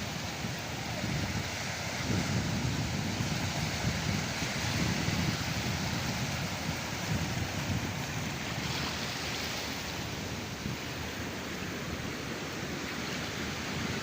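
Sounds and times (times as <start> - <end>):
wind buffeting microphone: 0.0 - 12.1
surf breaking on shore: 0.0 - 14.0.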